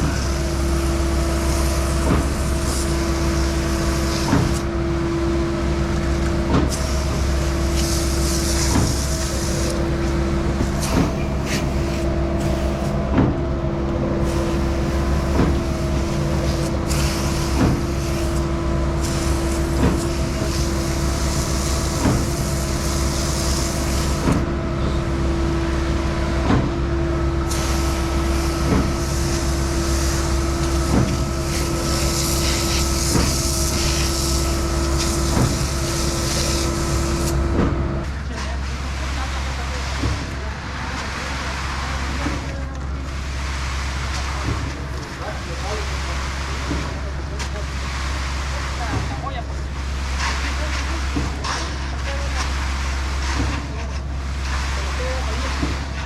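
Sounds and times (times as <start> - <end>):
pump cylinder clunks: 0.0 - 7.9, 8.6 - 56.0
engine and hydraulic drone: 0.0 - 56.0.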